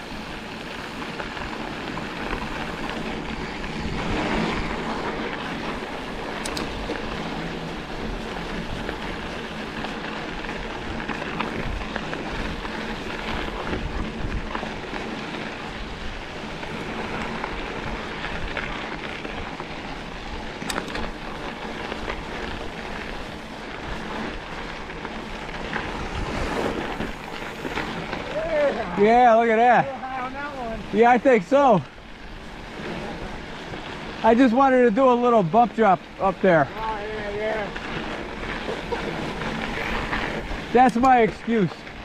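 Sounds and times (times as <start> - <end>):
bike rattling: 0.0 - 42.0
tyres rolling on dirt: 0.0 - 42.0
wind buffeting microphone: 0.0 - 42.0.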